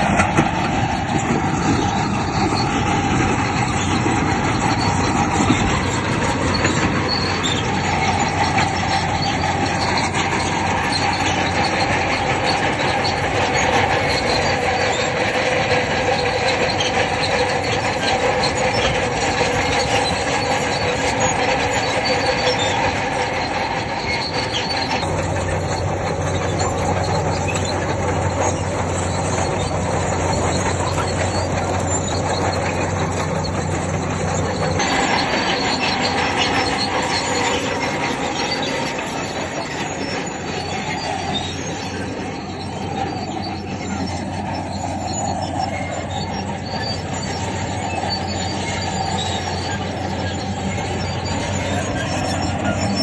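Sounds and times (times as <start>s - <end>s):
diesel engine running: 0.0s - 53.0s
steel tracks squealing and clanking: 0.0s - 53.0s.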